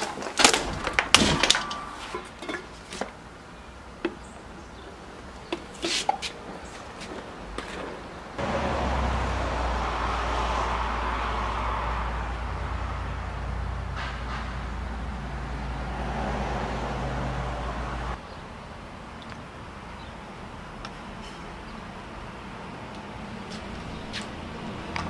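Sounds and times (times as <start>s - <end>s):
outdoor rumble and hiss: 0.0s - 25.0s.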